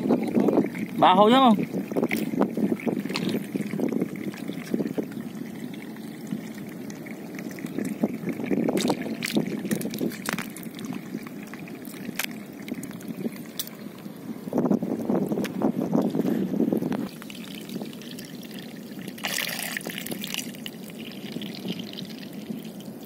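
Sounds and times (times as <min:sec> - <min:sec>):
water sloshing and trickling: 0:00.0 - 0:23.0
water splashes: 0:00.0 - 0:23.0.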